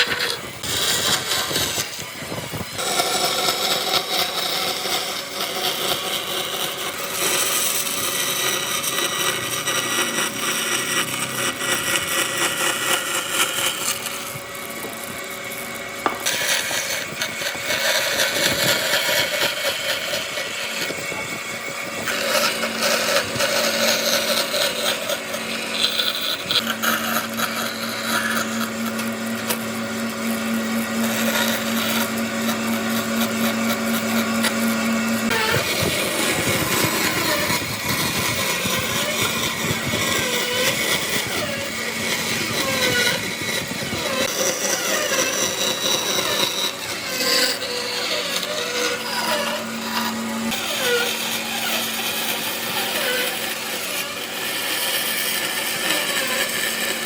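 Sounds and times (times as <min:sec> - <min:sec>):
power tool machining wood: 0:00.0 - 0:57.0
steady motor hum: 0:00.0 - 0:57.0.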